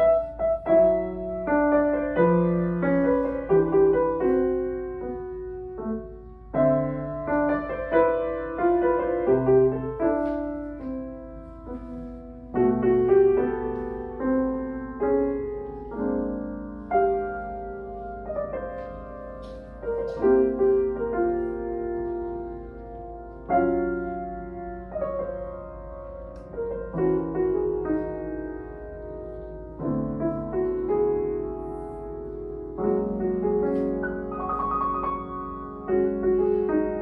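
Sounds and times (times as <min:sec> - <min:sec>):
slow gentle piano piece: 0:00.0 - 0:37.0.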